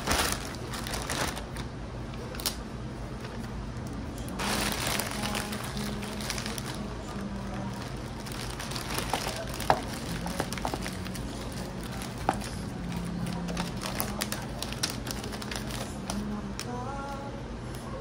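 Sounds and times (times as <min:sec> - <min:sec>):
plastic bag crinkling: 0:00.0 - 0:02.6, 0:04.3 - 0:16.7.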